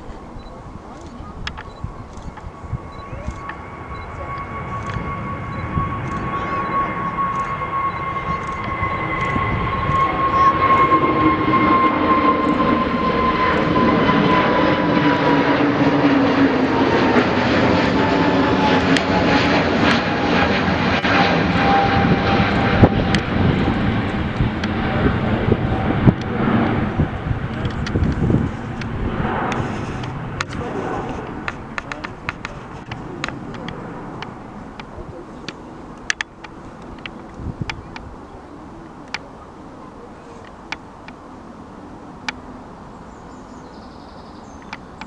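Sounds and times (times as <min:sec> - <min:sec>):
jet airliner passing: 0:00.0 - 0:45.0.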